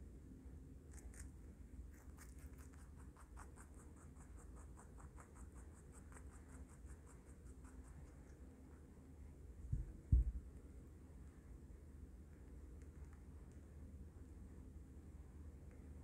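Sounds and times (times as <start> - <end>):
rabbit crunching food: 0.1 - 9.6, 11.1 - 16.0.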